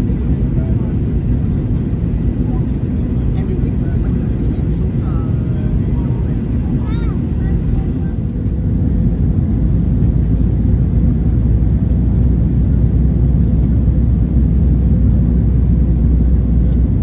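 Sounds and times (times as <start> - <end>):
airflow noise in cabin: 0.0 - 17.0
jet engine rumble: 0.0 - 17.0.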